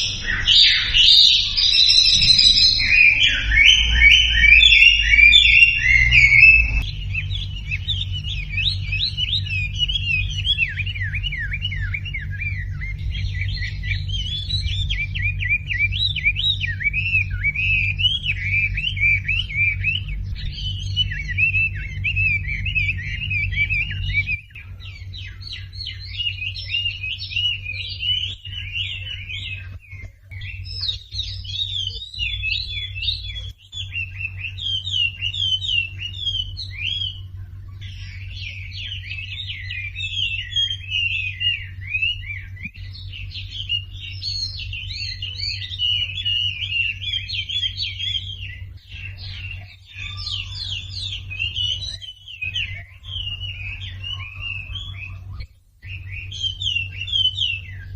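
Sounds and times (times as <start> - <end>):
bird chirps and trills: 0.0 - 57.9
low steady hum: 0.0 - 57.9.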